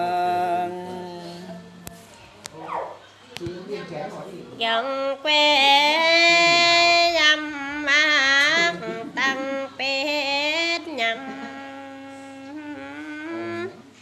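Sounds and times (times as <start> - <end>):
person singing unaccompanied: 0.0 - 2.1, 4.6 - 14.0.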